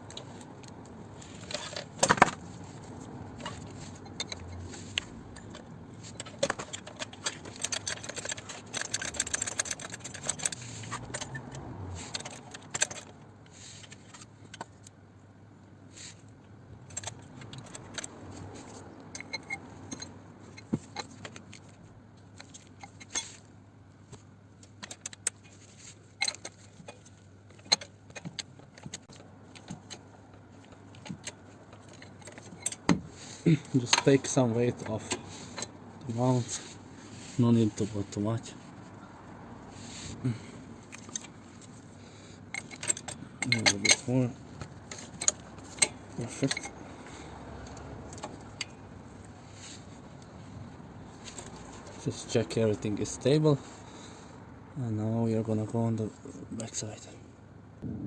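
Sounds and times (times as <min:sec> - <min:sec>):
metal tools clinking: 0:00.1 - 0:13.2, 0:16.9 - 0:23.5, 0:24.7 - 0:38.7, 0:39.7 - 0:53.7.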